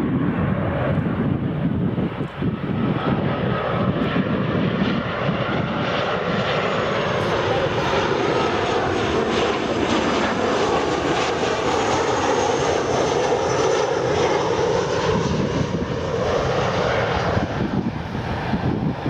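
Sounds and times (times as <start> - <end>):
jet airliner passing low: 0.0 - 19.0.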